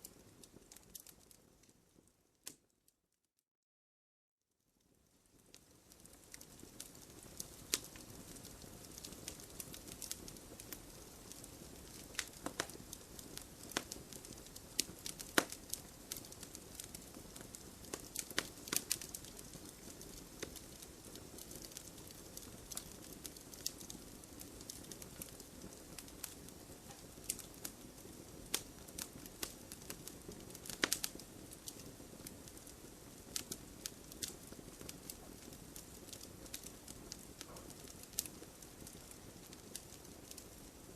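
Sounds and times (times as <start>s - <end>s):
low hiss of burning: 0.0s - 2.7s, 4.6s - 40.9s
wood fire crackling: 0.0s - 2.7s, 4.8s - 40.9s
sharp pops of fire: 6.3s - 40.6s.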